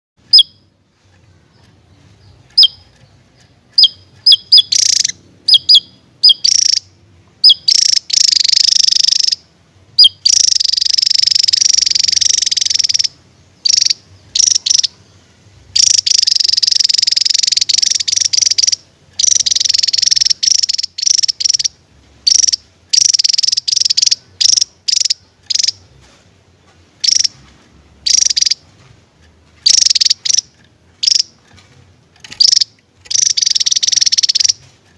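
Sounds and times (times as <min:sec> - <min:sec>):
bird buzzy trilling: 0:00.2 - 0:00.8, 0:01.5 - 0:26.0, 0:27.0 - 0:31.6, 0:32.2 - 0:34.7
bird high chirps: 0:00.2 - 0:26.1, 0:27.0 - 0:28.8, 0:29.6 - 0:31.4, 0:32.2 - 0:34.7.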